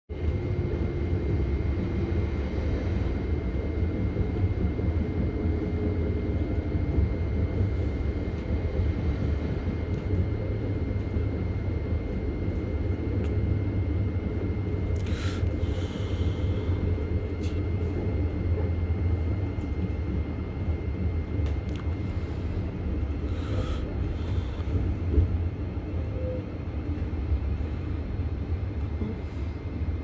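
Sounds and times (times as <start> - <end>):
thin steady whine: 0.1 - 30.0
train wheels rumbling on track: 0.1 - 30.0.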